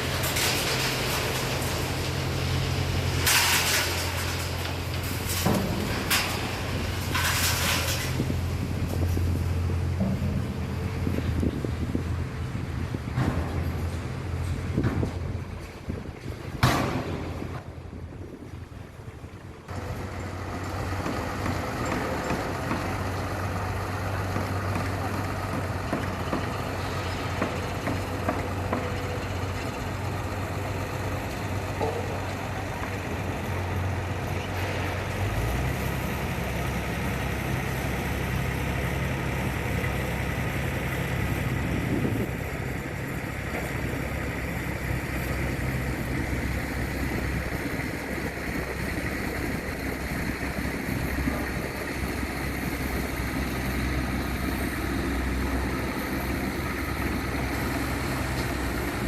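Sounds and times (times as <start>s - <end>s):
dump truck diesel engine running: 0.0s - 59.0s.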